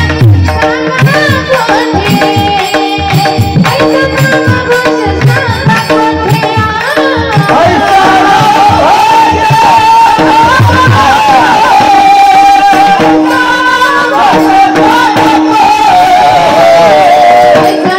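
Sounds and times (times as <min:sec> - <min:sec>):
tabla and drum beat: 0:00.0 - 0:17.9
woman singing: 0:00.0 - 0:17.9.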